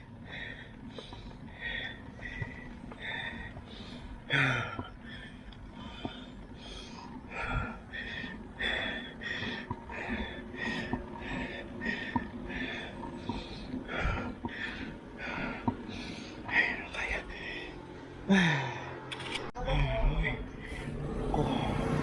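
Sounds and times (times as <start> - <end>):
person panting hard: 0.0 - 19.1.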